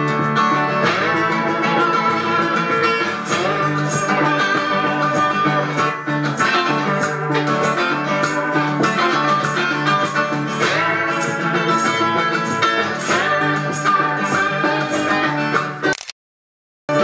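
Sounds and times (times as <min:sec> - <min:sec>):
harmonica: 0:00.0 - 0:15.4
lap slide guitar: 0:00.0 - 0:15.8
guitar: 0:00.0 - 0:16.1.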